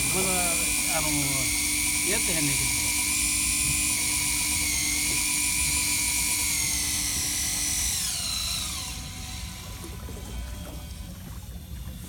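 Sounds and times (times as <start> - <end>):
fishing reel motor whining: 0.0 - 12.0.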